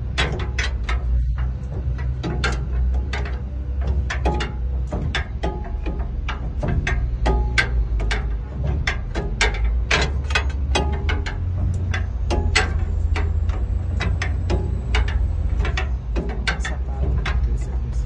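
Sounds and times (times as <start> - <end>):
generator engine rumbling: 0.0 - 18.0.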